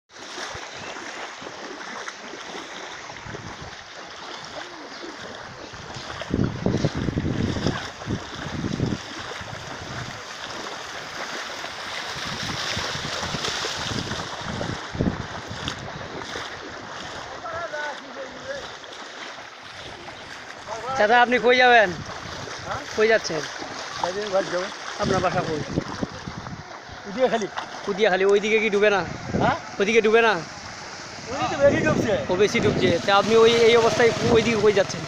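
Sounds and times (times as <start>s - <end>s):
floodwater rushing: 0.1s - 35.0s
wind buffeting microphone: 2.9s - 18.8s, 19.6s - 35.0s.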